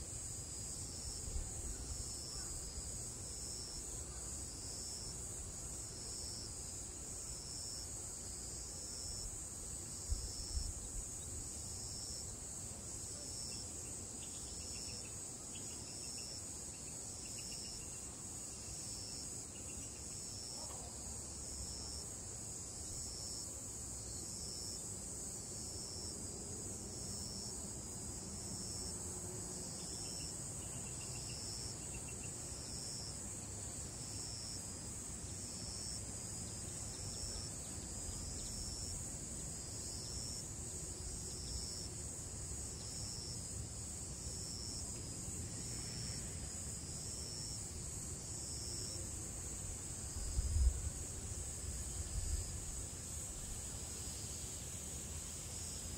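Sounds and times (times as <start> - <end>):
cicadas singing: 0.6 - 20.9, 27.0 - 55.9.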